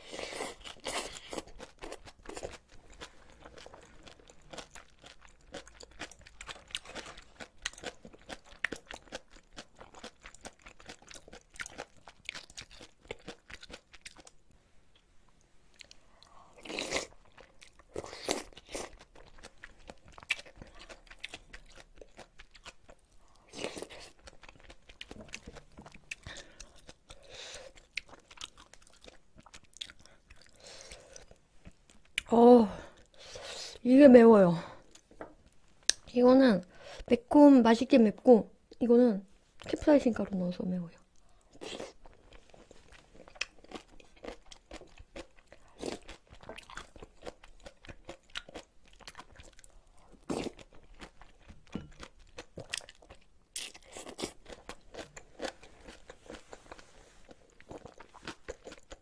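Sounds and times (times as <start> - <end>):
chewing and crunching noodles: 0.0 - 14.5, 15.7 - 32.3, 41.0 - 59.0.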